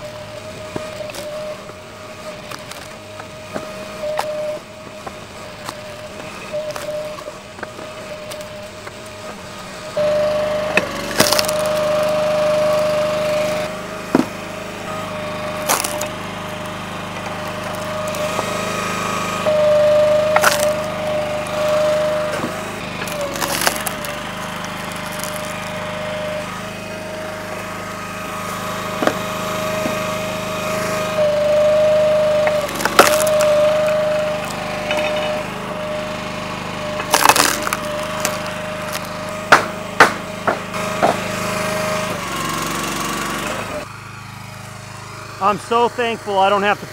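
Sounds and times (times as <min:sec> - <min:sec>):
log splitter whine: 0:00.0 - 0:46.9
wood cracking apart: 0:00.1 - 0:42.2.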